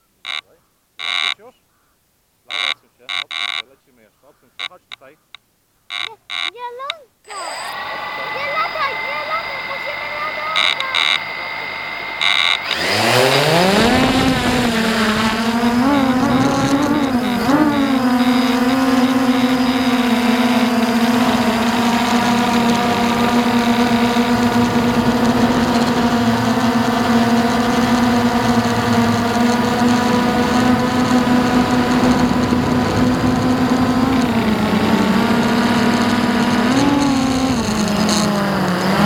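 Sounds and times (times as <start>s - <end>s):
quadcopter motors buzzing: 1.0s - 1.4s, 2.5s - 3.8s, 5.9s - 6.6s, 7.2s - 39.0s.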